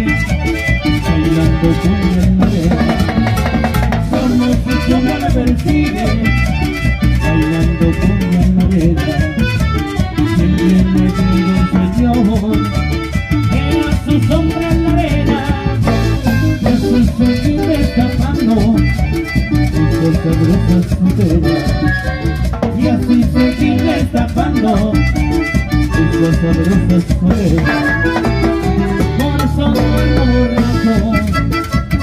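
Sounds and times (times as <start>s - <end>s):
latin dance band playing: 0.0s - 32.0s
piano accordion melody: 0.0s - 32.0s.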